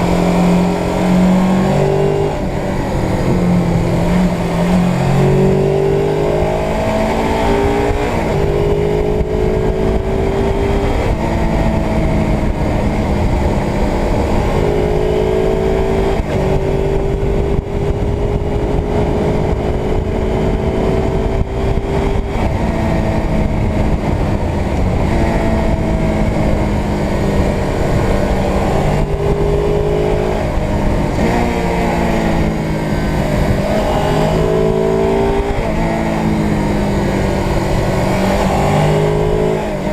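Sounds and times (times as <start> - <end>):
motorcycle engine accelerating: 0.0 - 39.9
wind and road rush: 0.0 - 39.9.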